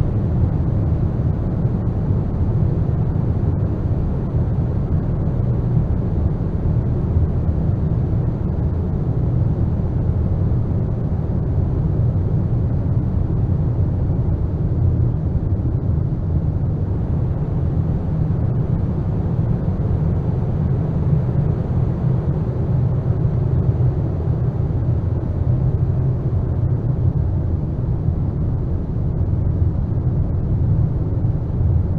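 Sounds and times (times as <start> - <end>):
deep rumbling ambient noise music: 0.0 - 31.9.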